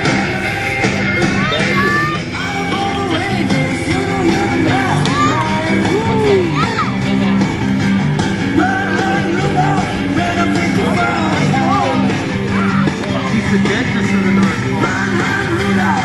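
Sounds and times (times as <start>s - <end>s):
person singing over band: 0.0s - 7.2s, 8.4s - 16.0s
upbeat christmas song: 0.0s - 16.0s.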